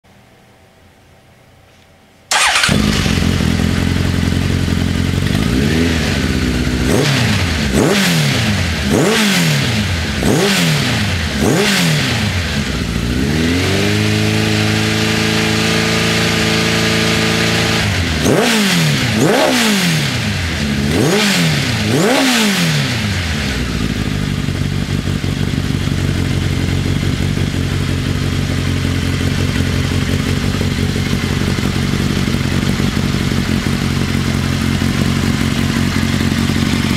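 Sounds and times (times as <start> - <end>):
motorcycle engine revving: 2.3 - 36.9.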